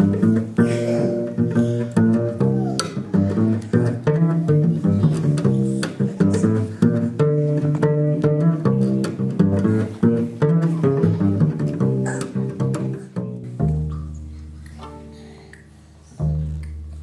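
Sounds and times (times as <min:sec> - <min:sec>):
double bass plucked jazz run: 0:00.0 - 0:17.0.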